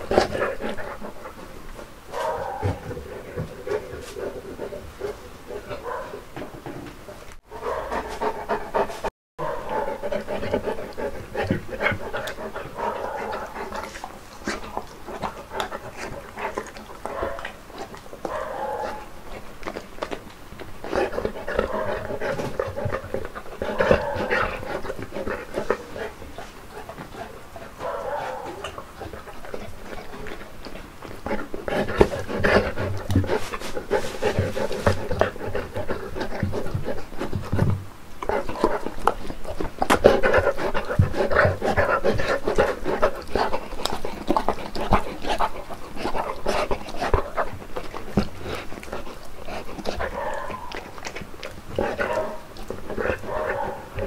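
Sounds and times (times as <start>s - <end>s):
dog chewing and lip-smacking: 0.0s - 6.5s, 7.1s - 54.0s
dog panting: 0.0s - 6.5s, 7.5s - 54.0s.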